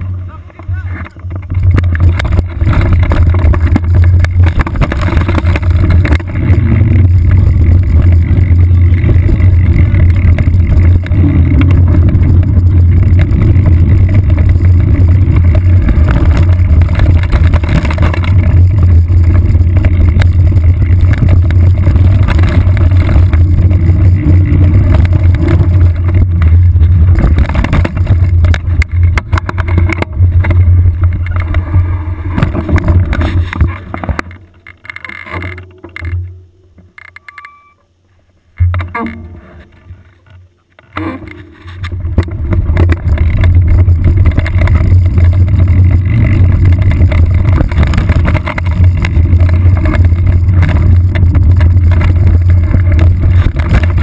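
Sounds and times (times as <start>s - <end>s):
mountain bike rumble and rattle: 0.0s - 54.0s.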